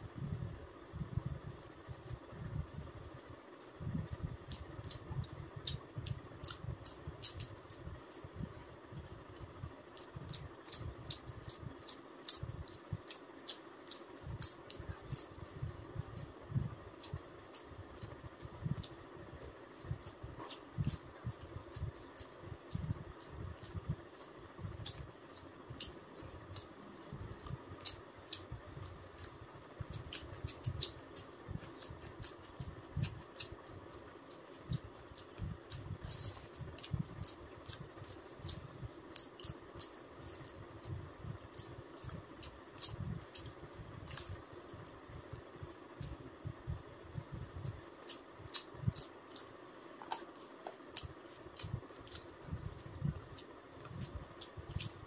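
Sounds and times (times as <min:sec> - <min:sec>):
faint steady hum: 0:00.0 - 0:55.0
mouth clicks and chewing: 0:00.4 - 0:46.3, 0:47.3 - 0:55.0.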